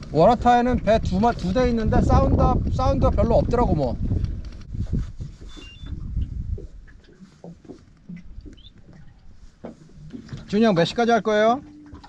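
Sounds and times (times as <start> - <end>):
knocks and clicks on boat: 0.0 - 12.0.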